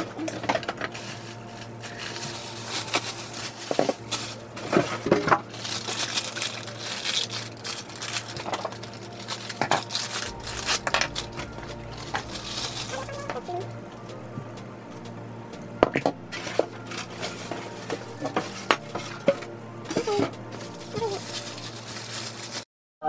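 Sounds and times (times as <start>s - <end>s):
plastic packaging crinkling: 0.2s - 13.7s, 16.3s - 22.7s.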